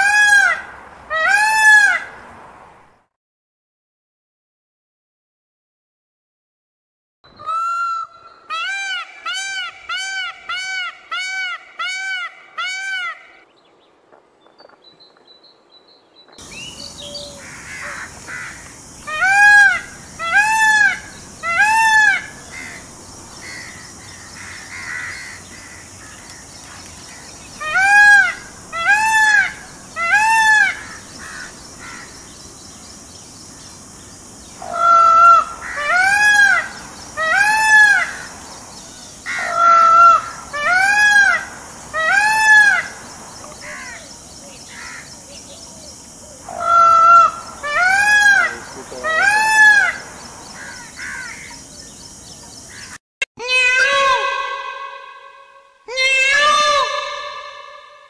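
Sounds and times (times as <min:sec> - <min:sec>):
peacock calling: 0:00.0 - 0:02.2, 0:07.3 - 0:13.5, 0:16.4 - 0:58.0.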